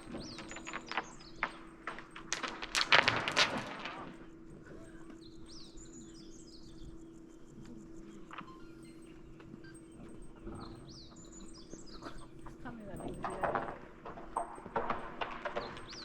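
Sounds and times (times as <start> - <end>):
small birds chirping: 0.0 - 2.8, 4.2 - 13.6, 14.9 - 16.0
steady hum: 0.0 - 16.0
wind turbine crackling rattle: 0.0 - 16.0.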